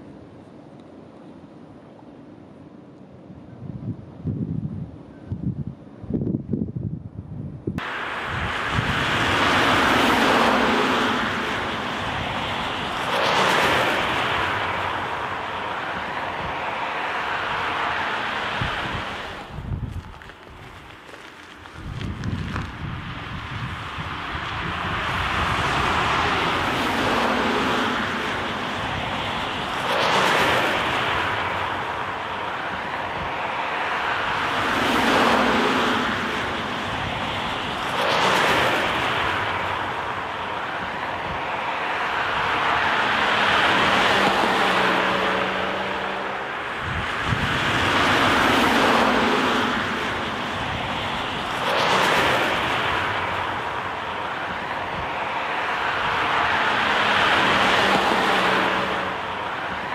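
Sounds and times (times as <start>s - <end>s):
cars driving past: 7.8s - 59.9s.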